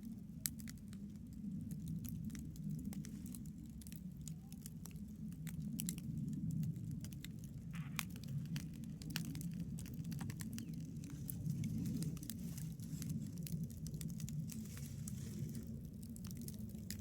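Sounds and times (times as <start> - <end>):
campfire crackling and popping: 0.0 - 17.0
low rumble of burning fire: 0.0 - 17.0.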